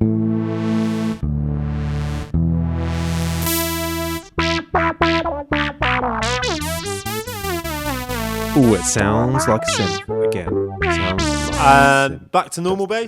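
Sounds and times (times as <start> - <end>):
electric bass guitar with effects: 0.0 - 12.1.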